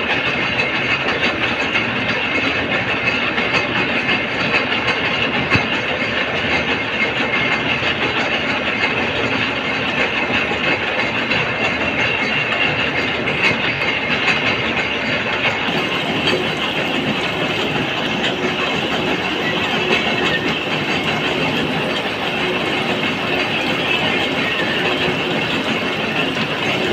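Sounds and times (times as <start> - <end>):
gear-cutting machine clattering: 0.1 - 26.9.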